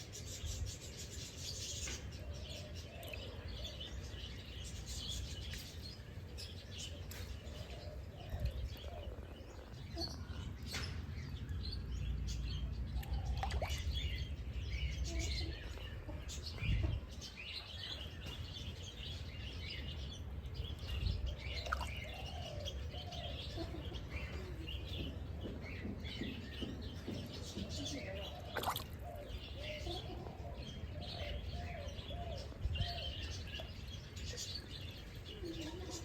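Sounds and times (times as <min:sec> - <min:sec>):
small birds chirping and twittering: 0:00.0 - 0:36.0.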